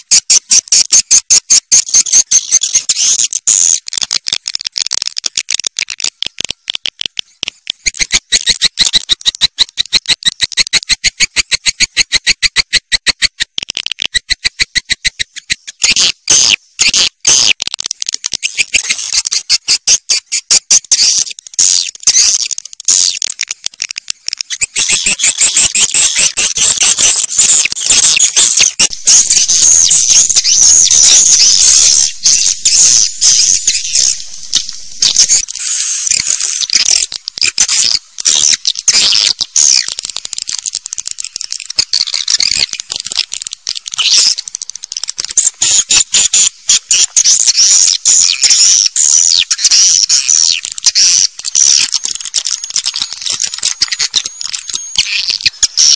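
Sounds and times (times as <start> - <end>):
swiftlets chirping and twittering: 0.0 - 3.9, 7.8 - 13.4, 18.2 - 55.9.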